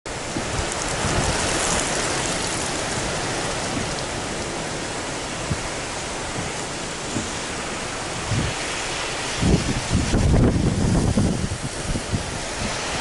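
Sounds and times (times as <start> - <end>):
surf breaking over breakwater: 0.1 - 13.0
wind buffeting microphone: 0.1 - 13.0.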